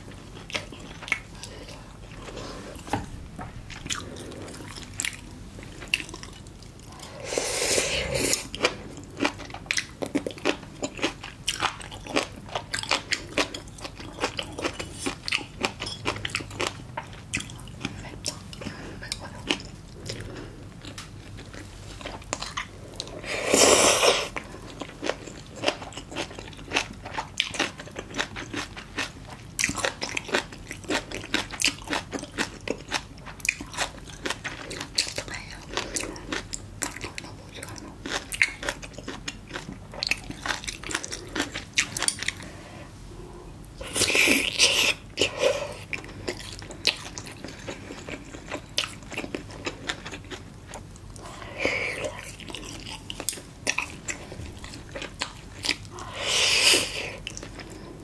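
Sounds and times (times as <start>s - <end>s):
person crunching and chewing: 3.6s - 42.6s, 43.8s - 58.0s.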